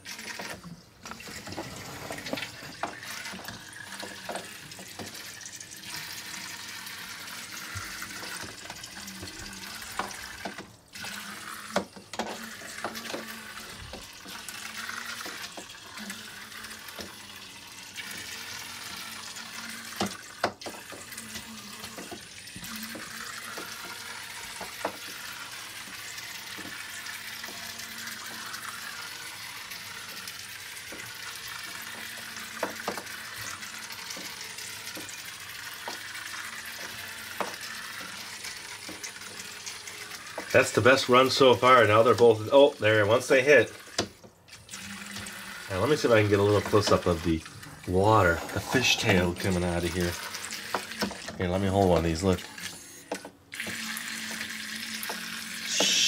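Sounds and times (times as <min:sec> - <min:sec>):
toy boats churning water: 0:00.0 - 0:56.0.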